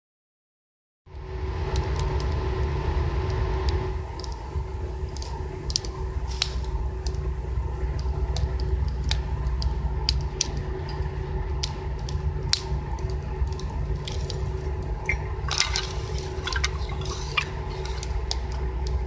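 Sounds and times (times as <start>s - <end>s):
steady low rumble: 1.1s - 19.0s
campfire crackling and popping: 1.2s - 19.0s.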